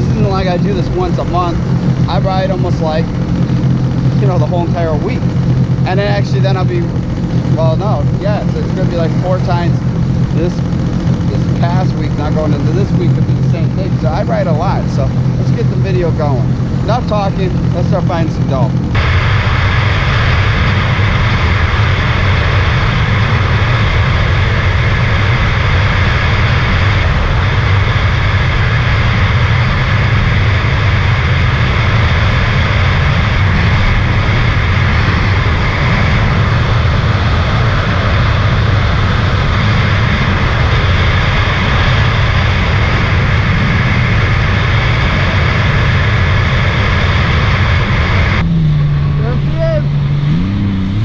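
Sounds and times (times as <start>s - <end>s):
personal watercraft engine running: 0.0s - 51.0s
rushing noise: 0.0s - 51.0s.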